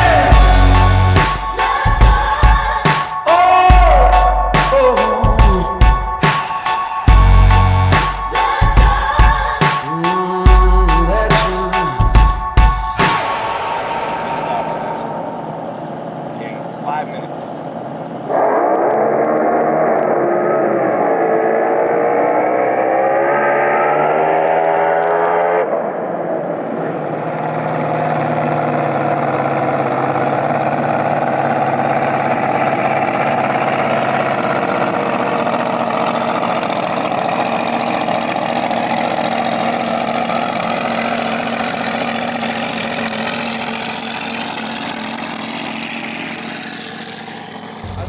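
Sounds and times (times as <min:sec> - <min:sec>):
drag boat engine: 0:00.0 - 0:48.0.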